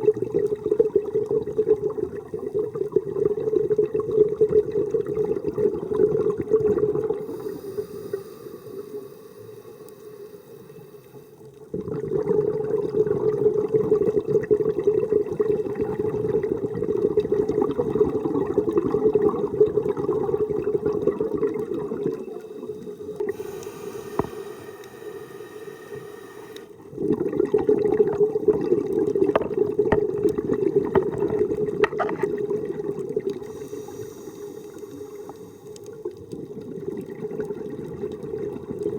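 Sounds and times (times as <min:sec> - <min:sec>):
diver exhaling bubbles underwater: 0:00.0 - 0:07.9, 0:11.7 - 0:25.2, 0:26.7 - 0:38.9.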